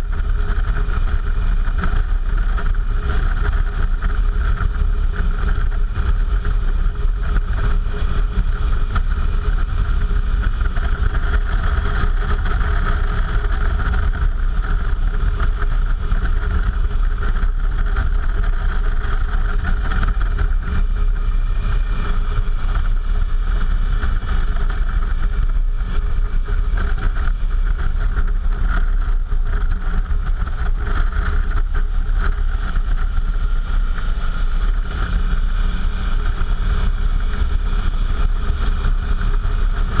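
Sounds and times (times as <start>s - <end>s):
motorcycle engine running: 0.0s - 40.0s
wind rumble on microphone: 0.0s - 40.0s.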